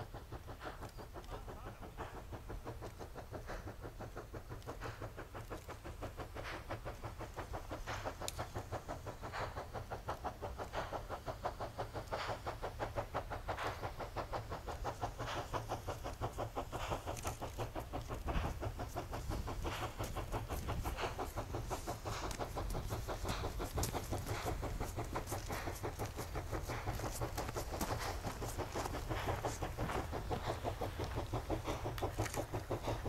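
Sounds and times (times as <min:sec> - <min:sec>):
low train rumble: 0:00.0 - 0:33.0
steam locomotive exhaust chuffs: 0:00.0 - 0:33.0.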